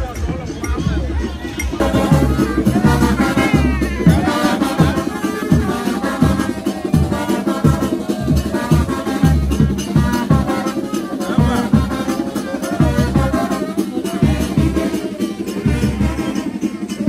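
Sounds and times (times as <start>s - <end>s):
parade band drums and percussion: 0.0s - 17.0s.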